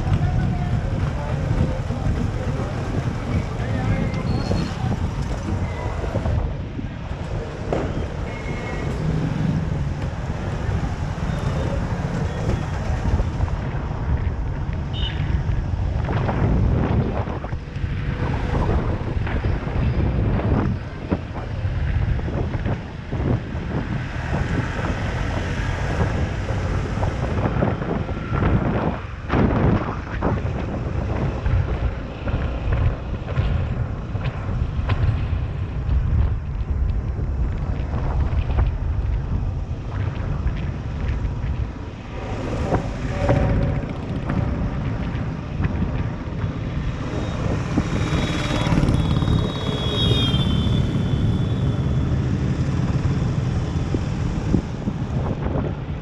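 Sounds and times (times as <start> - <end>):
passing road traffic: 0.0 - 56.0
wind buffeting microphone: 0.0 - 56.0.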